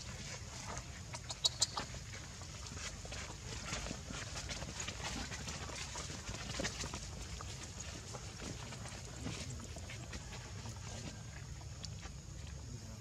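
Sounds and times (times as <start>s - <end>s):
faint ticks and rustles: 0.0s - 13.0s.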